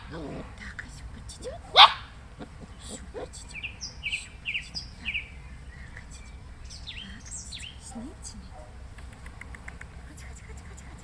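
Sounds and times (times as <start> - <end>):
bird chirping: 1.3 - 11.0.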